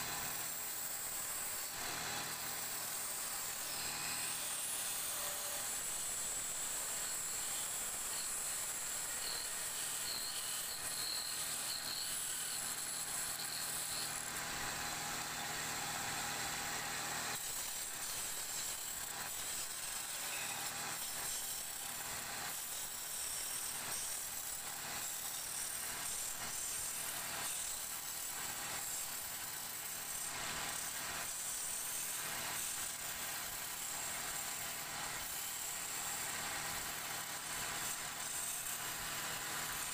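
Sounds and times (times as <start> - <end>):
lathe tool cutting wood: 0.0 - 39.9.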